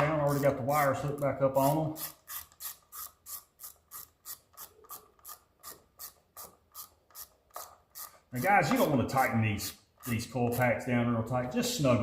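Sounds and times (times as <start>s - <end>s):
hand ratchet clicking: 0.0s - 8.9s, 9.6s - 10.7s.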